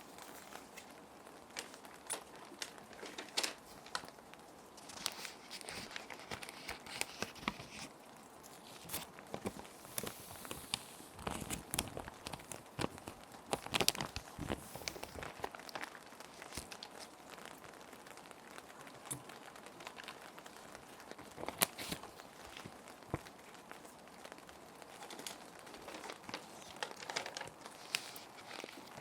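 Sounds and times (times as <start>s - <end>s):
gentle rain: 0.0s - 29.0s
plastic sheet protectors crinkling: 0.0s - 29.0s.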